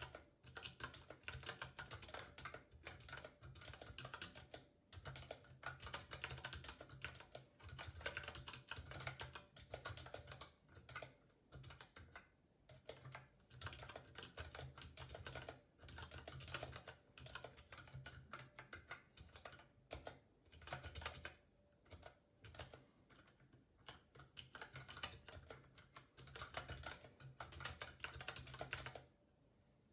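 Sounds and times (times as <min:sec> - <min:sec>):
keyboard typing clicks: 0:00.0 - 0:29.1.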